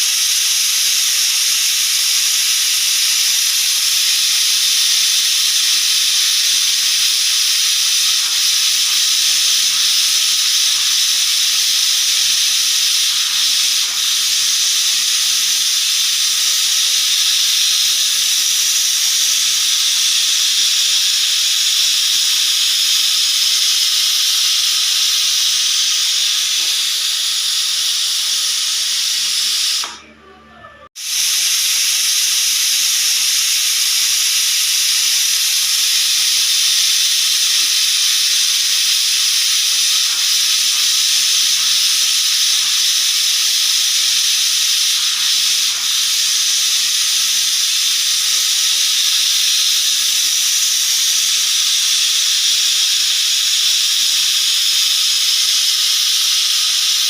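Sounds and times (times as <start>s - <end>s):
pressure cooker whistle hissing: 0.0s - 30.1s, 31.0s - 57.0s.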